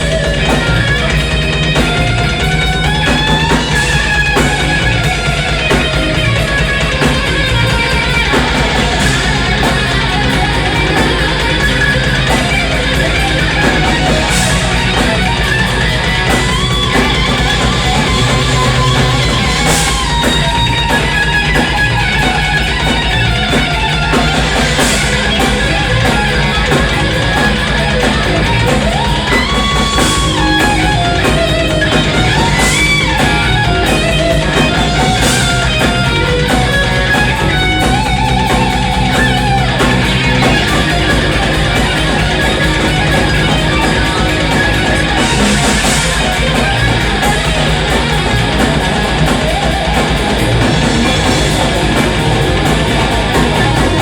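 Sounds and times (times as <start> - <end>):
bass and drums: 0.0 - 54.0
distorted electric guitar lead: 0.0 - 54.0.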